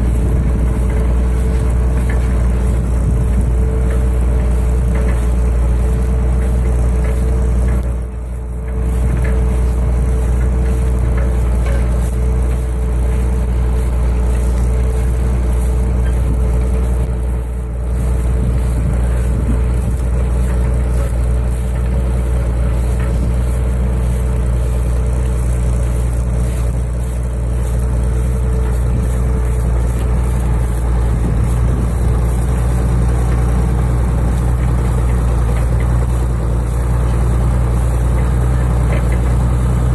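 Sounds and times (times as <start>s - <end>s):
steady whine: 0.0s - 39.9s
tractor diesel engine under load: 0.0s - 39.9s.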